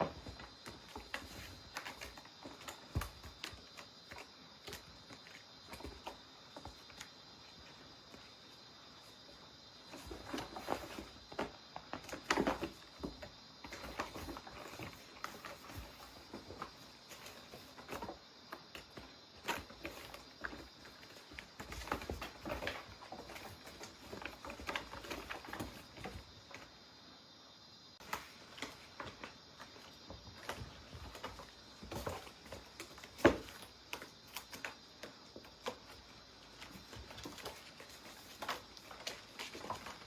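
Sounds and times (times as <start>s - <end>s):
cat paws pattering and scuffling: 0.0s - 26.8s, 28.0s - 40.0s
faint steady high hiss: 0.0s - 40.0s.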